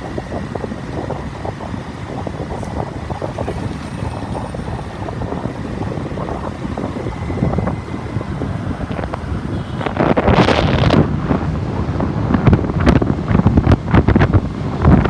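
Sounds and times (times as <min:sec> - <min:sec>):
motorbike engine: 0:00.0 - 0:15.0
wind buffeting microphone: 0:00.0 - 0:15.0.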